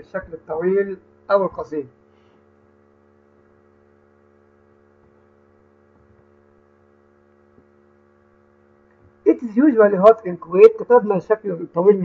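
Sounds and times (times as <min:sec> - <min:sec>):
faint electrical mains hum: 0:00.0 - 0:12.0.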